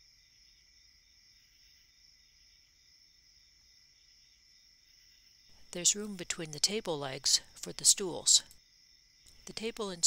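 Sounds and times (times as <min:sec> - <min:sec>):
faint high-pitched whine: 0:00.0 - 0:10.0.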